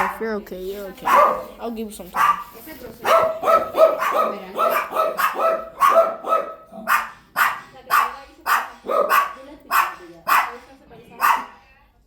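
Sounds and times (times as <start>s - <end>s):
dogs barking: 0.0s - 0.3s, 1.0s - 11.6s.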